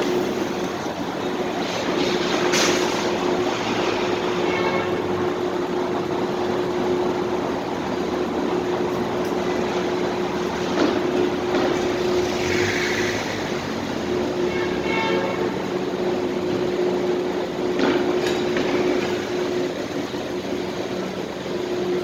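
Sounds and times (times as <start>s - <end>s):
rushing vehicle noise: 0.0s - 22.0s.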